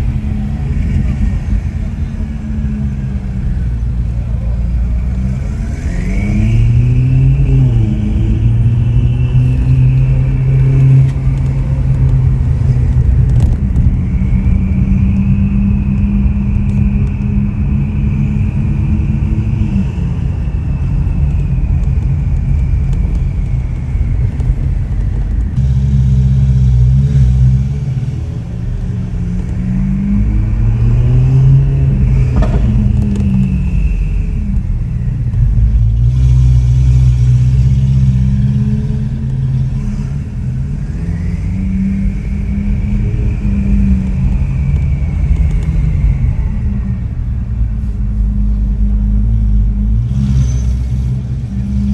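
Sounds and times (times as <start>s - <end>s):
car engine revving while driving: 0.0s - 51.9s.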